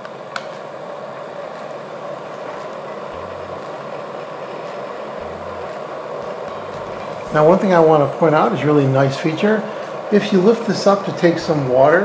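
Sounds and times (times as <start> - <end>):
electric kettle heating water: 0.0 - 12.0.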